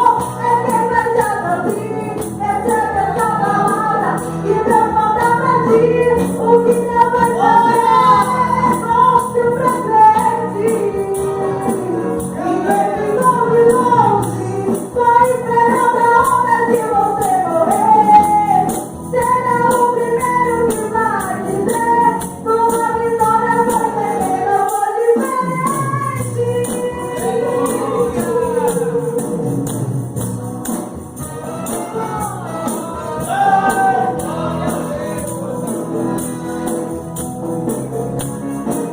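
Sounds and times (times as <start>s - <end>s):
tambourine shaken rhythmically: 0.0s - 38.9s
voices singing gospel song: 0.0s - 38.9s.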